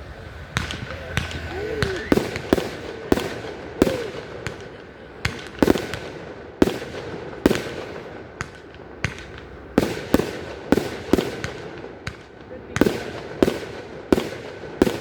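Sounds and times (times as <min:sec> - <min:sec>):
fireworks bursting with echo: 0:00.0 - 0:15.0.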